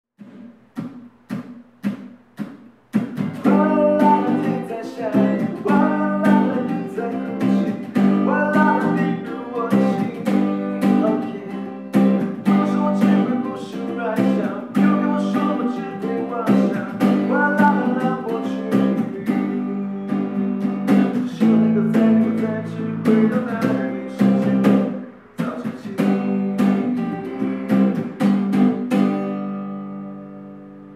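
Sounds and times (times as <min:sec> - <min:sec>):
guitar strumming chords: 0:03.0 - 0:30.9.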